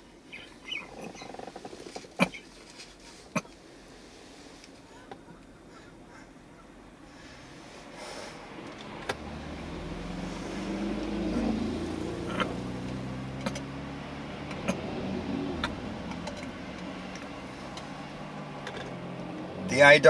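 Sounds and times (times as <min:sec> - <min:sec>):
vehicles driving slowly past: 0:00.0 - 0:20.0.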